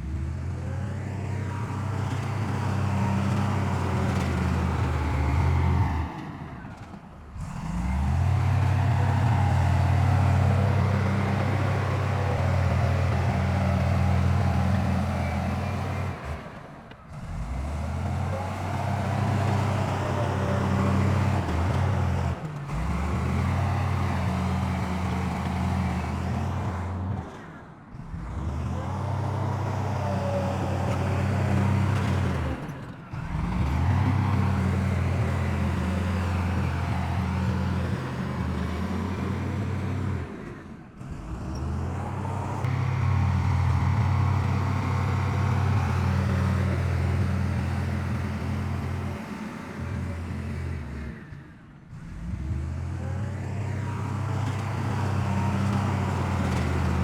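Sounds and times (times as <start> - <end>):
heavy diesel engines droning: 0.0 - 57.0.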